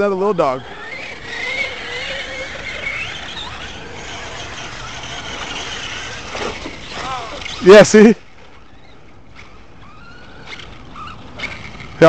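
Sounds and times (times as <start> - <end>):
rc truck motor whining: 0.0 - 7.9, 8.5 - 12.0
tyres and wind rushing: 0.0 - 12.0.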